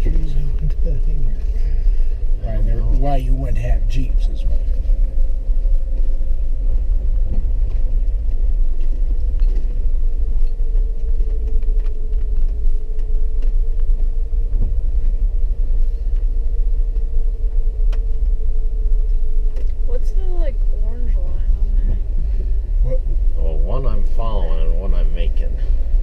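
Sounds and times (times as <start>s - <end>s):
engine and tyres rumbling: 0.0s - 26.0s
mid-pitched hum: 0.0s - 26.0s.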